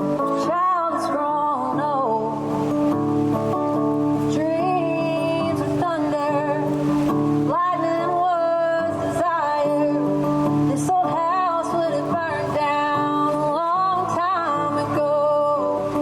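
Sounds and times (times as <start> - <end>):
guitar accompaniment: 0.0 - 16.0
woman singing: 0.0 - 16.0.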